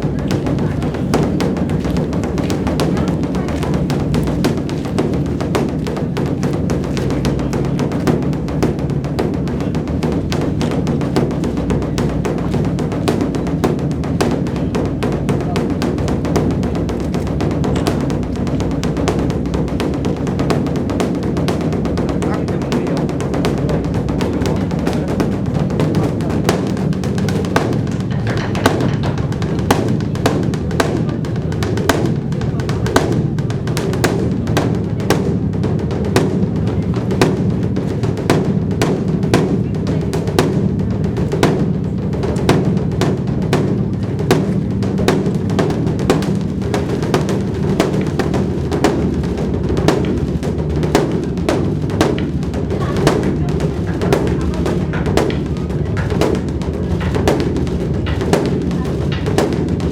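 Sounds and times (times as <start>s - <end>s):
deep drum rumble: 0.0s - 59.9s
sharp drum strikes: 0.0s - 59.9s.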